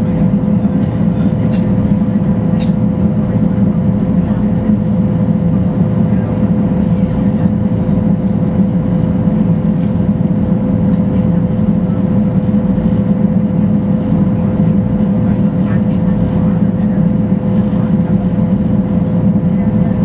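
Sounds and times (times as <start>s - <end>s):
turbine engine drone: 0.0s - 20.0s.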